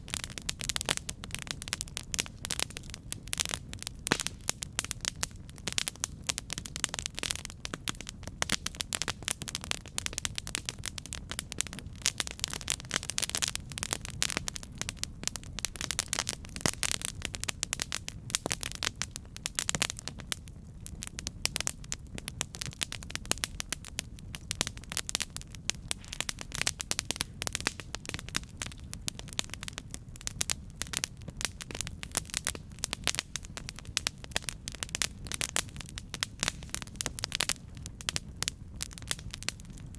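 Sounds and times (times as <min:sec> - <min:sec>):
campfire crackling: 0:00.0 - 0:39.9
low rumble of flames: 0:00.0 - 0:39.9.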